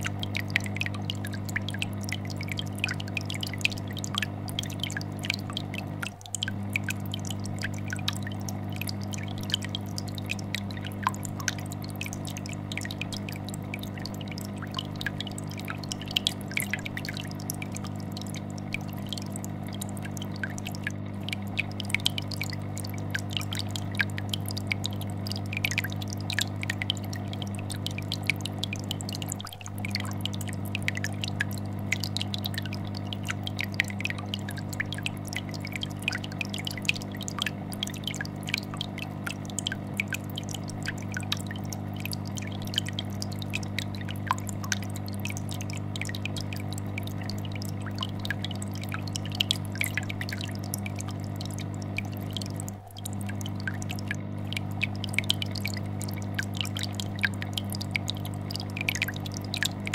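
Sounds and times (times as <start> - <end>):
aquarium air bubbler bubbling: 0.0 - 59.9
fish tank filter hum: 0.0 - 59.9.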